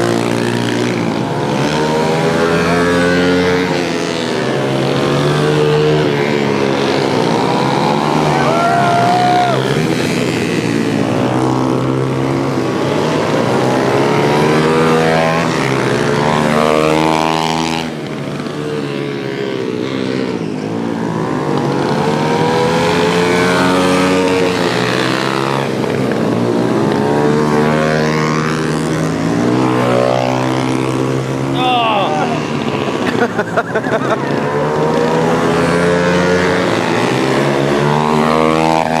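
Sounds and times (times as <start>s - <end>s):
pit bike engines revving: 0.0s - 39.0s.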